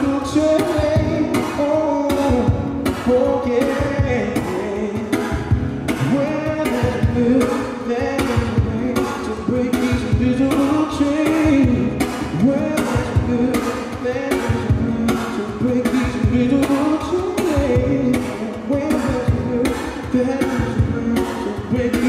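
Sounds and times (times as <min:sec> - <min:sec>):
accompaniment with steady beat: 0:00.0 - 0:22.0
man singing wordlessly: 0:00.0 - 0:22.0.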